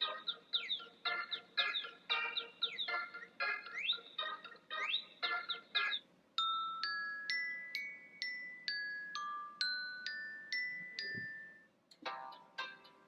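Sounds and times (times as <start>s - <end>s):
gliding chirps: 0.0s - 11.7s
chime ringtone melody: 0.0s - 13.0s.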